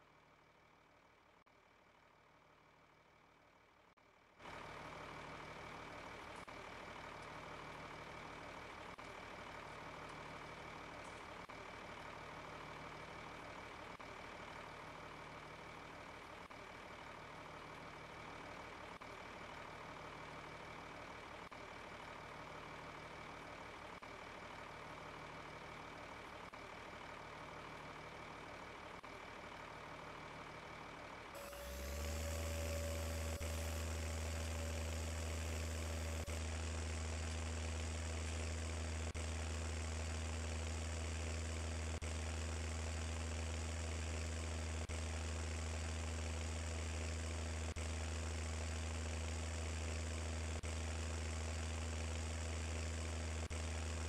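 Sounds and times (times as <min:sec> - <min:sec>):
combine harvester engine running: 0:04.4 - 0:54.0.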